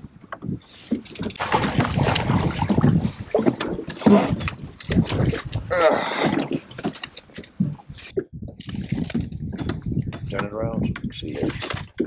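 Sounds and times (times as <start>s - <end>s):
wind buffeting microphone: 0.0s - 12.0s
water splashing: 0.4s - 12.0s.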